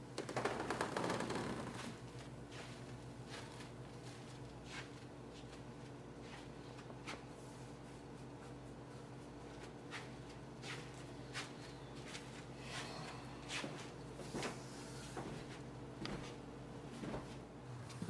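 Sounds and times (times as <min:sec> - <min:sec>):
low room hum: 0:00.0 - 0:18.0
soft footsteps on floor: 0:00.4 - 0:18.0.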